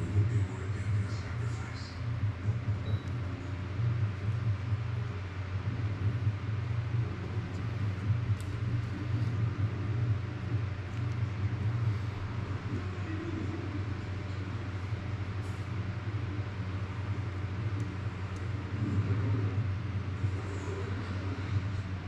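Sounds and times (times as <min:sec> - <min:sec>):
low rumbling hum: 0:00.0 - 0:22.0.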